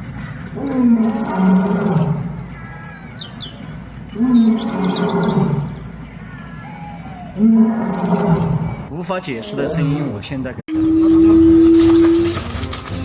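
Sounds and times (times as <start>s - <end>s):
low roaring calls: 0.0s - 12.4s.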